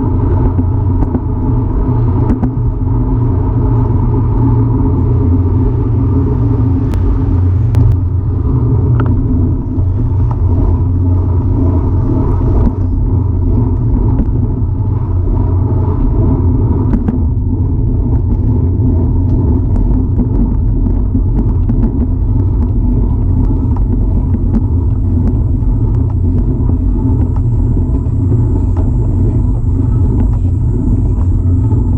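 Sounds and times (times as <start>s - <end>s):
bicycle tyre and road noise: 0.0s - 31.9s
wind buffeting microphone: 0.0s - 31.9s.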